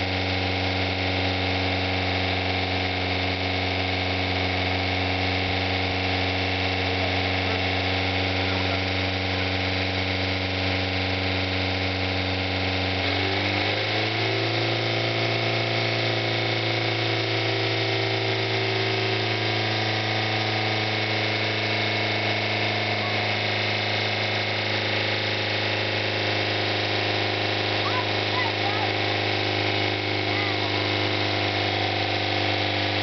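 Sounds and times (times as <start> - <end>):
car engine screaming at high revs: 0.0 - 33.0.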